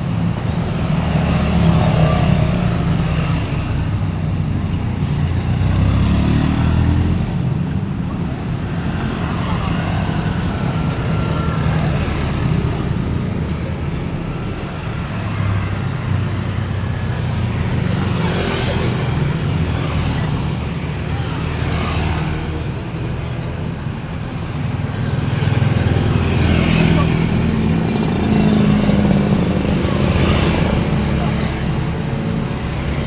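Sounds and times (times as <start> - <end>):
cars passing with tyre swishes: 0.0 - 33.0
traffic engines rumbling: 0.0 - 33.0.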